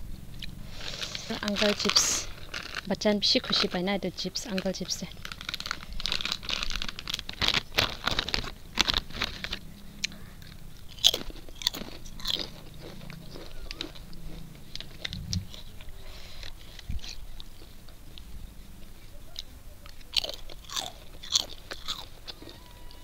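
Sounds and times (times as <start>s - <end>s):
potato chips crunching: 0.4s - 18.3s, 19.8s - 23.0s.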